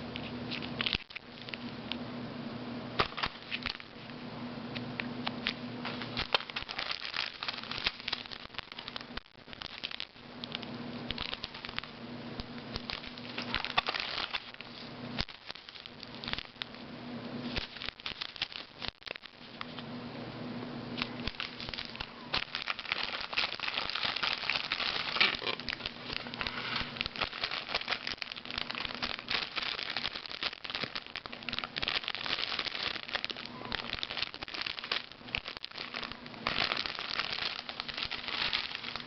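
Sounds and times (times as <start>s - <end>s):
plastic packaging crinkling: 0.5s - 1.7s, 3.0s - 4.2s, 5.2s - 16.8s, 17.4s - 19.8s, 21.0s - 39.0s.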